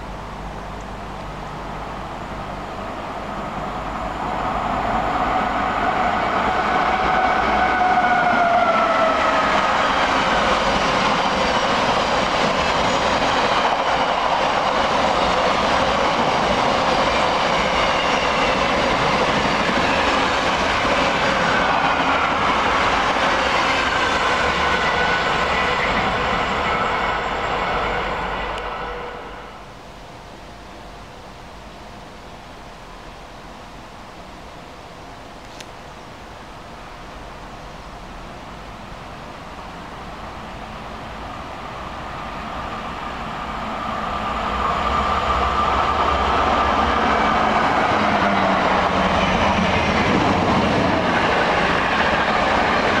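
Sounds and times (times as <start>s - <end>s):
train wheels rushing on rails: 0.0s - 29.8s, 38.0s - 53.0s.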